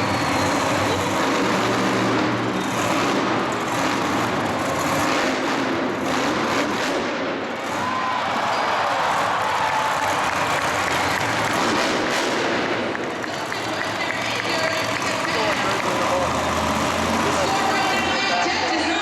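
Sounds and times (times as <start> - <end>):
loud vehicle engine running: 0.0 - 19.0.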